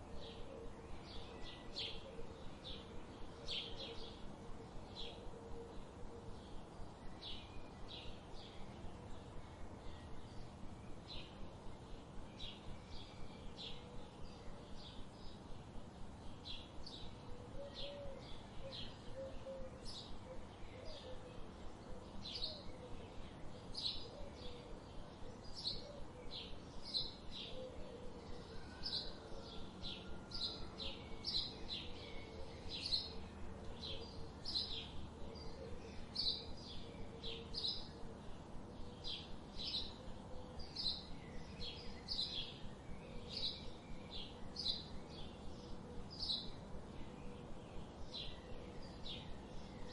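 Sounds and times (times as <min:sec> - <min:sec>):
faint low background hum: 0:00.0 - 0:49.9.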